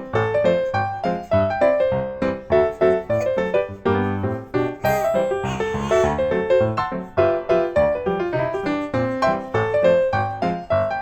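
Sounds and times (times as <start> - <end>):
piano-like keyboard melody: 0.0 - 11.0.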